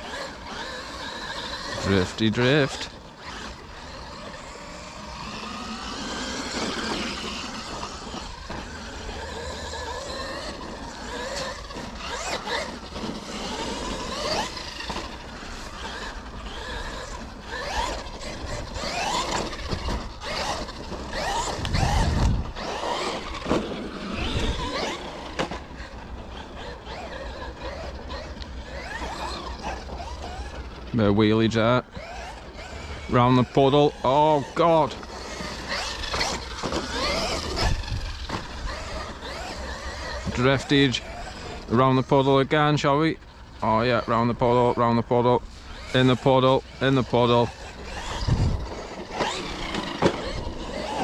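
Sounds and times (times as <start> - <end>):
low rumbles: 0.0 - 33.3, 43.2 - 51.0
electric toy car motor whine: 0.0 - 51.0.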